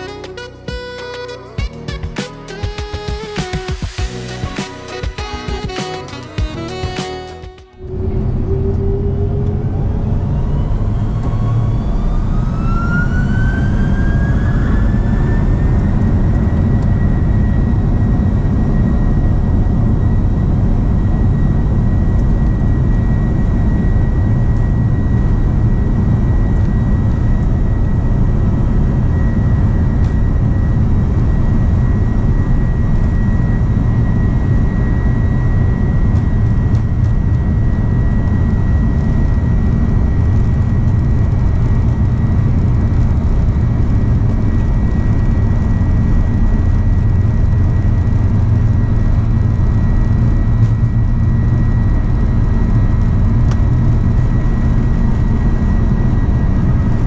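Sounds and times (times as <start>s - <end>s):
high engine whine: 0.0s - 57.0s
jet engine rumble: 0.0s - 57.0s.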